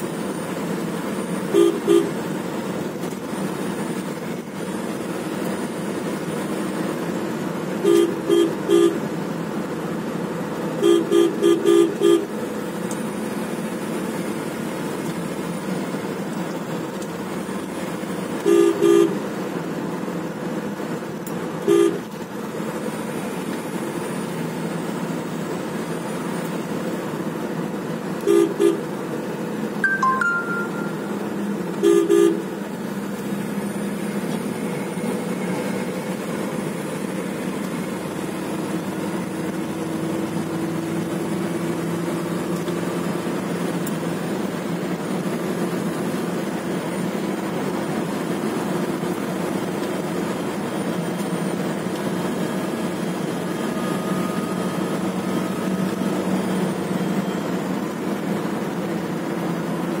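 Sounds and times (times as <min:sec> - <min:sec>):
car engine drone: 0:00.0 - 1:00.0.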